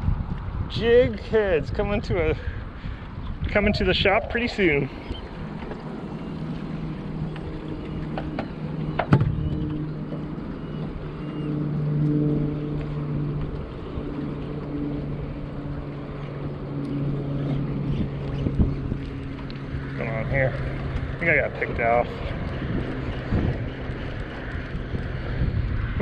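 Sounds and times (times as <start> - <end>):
boat motor running: 0.8 - 26.0.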